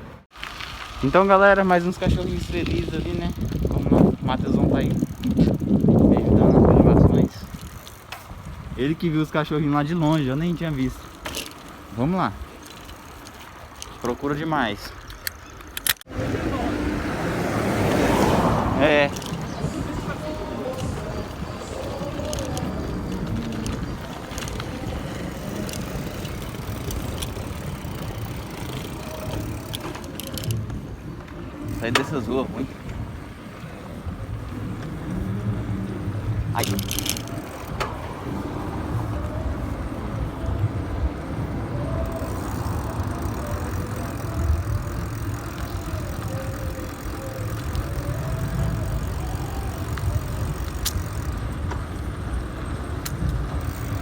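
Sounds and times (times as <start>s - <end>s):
bicycle tyres rumbling: 0.0s - 54.0s
road noise: 0.0s - 54.0s
bike clicks and rattles: 0.3s - 16.1s, 17.8s - 54.0s
wind rushing over microphone: 0.8s - 11.1s, 16.1s - 54.0s.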